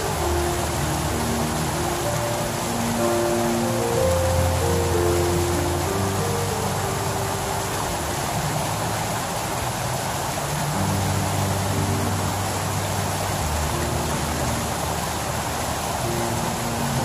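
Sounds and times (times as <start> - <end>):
low held music notes: 0.0 - 17.0.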